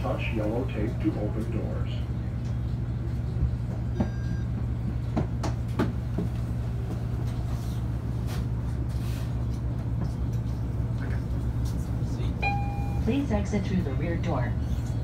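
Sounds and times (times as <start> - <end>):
bus engine humming: 0.0 - 15.0.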